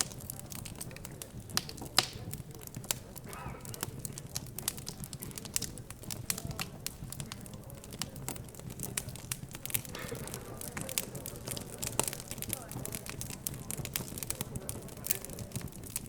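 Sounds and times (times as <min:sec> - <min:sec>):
background chatter: 0:00.0 - 0:16.0
wood fire crackling and popping: 0:00.0 - 0:16.0.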